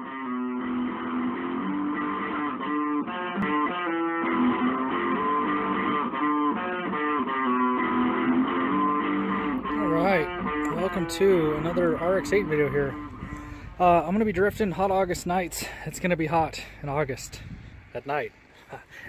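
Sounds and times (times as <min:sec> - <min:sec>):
guitar background music: 0:00.0 - 0:16.8.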